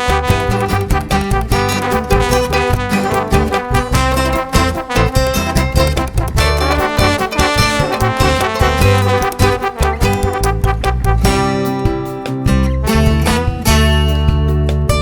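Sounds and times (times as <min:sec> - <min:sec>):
upbeat brass swing music: 0:00.0 - 0:14.7.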